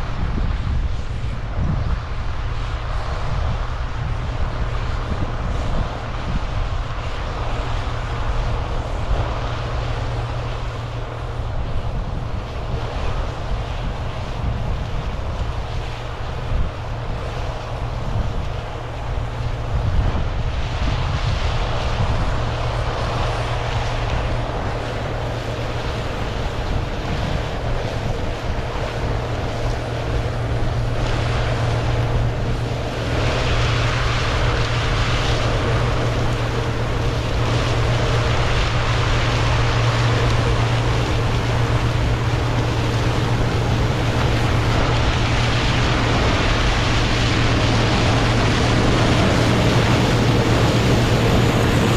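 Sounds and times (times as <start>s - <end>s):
diesel engine drone: 0.0s - 51.9s
wind on microphone: 0.0s - 51.9s.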